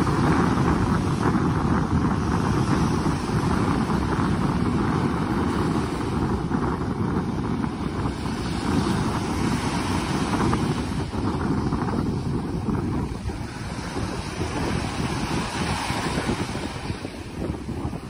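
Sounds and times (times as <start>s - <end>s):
small waves breaking on sand: 0.0s - 18.0s
wind buffeting microphone: 0.0s - 18.0s.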